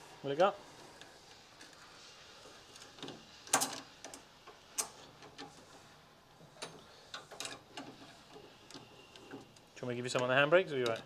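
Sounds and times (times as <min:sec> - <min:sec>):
faint clicks and metal knocks: 0:00.9 - 0:11.0.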